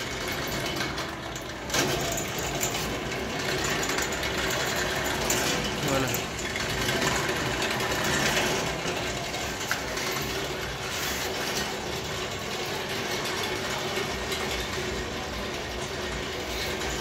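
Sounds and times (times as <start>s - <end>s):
pedal drive mechanical running: 0.0s - 17.0s.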